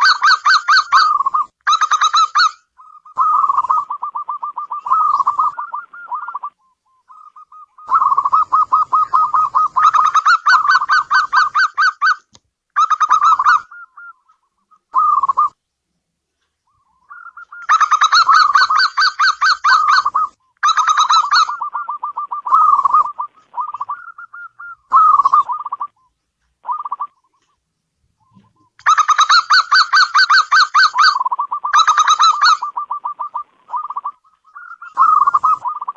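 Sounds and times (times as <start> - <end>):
dove cooing: 0.0 - 12.2, 12.8 - 15.6, 16.7 - 27.5, 28.2 - 35.9.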